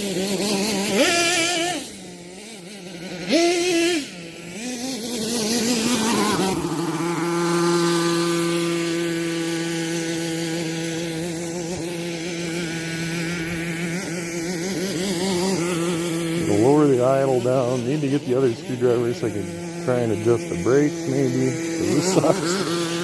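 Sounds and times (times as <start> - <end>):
small nitro engine revving: 0.0 - 23.0.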